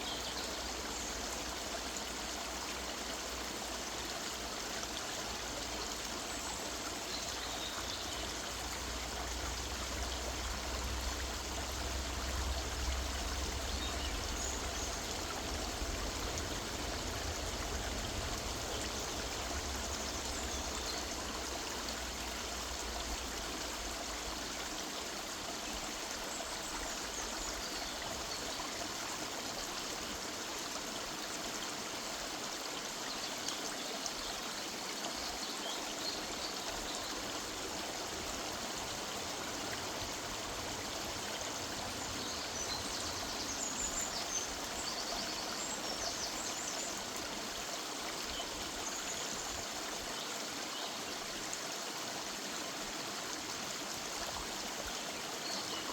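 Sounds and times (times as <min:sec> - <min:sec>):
river running over stones: 0:00.0 - 0:55.9.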